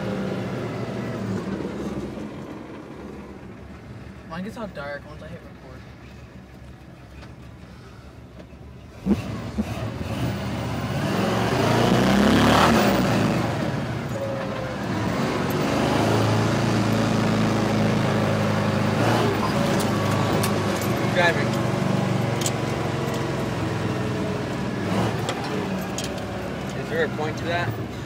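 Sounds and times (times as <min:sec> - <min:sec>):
truck engine pulling hard: 0:00.0 - 0:28.0.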